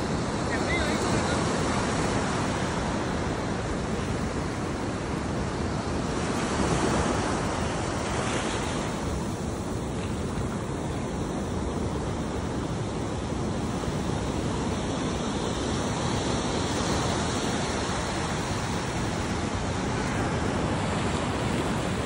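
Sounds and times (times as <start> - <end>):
surf washing over sandy beach: 0.0 - 22.0.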